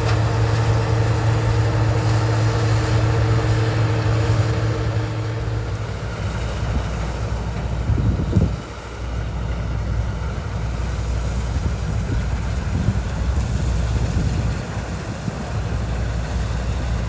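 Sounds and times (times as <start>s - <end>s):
diesel engine humming: 0.0s - 17.0s
wind buffeting microphone: 0.0s - 17.0s.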